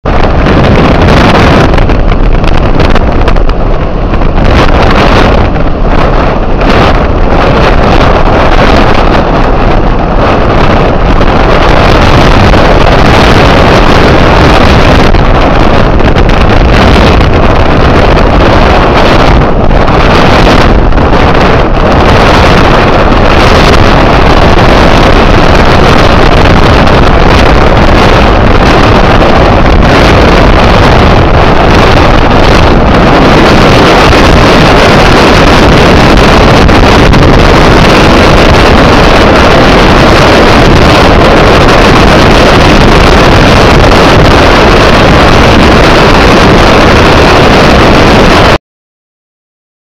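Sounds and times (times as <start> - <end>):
rough sea rushing along hull: 0.0 - 48.6
strong wind on microphone: 0.0 - 48.6.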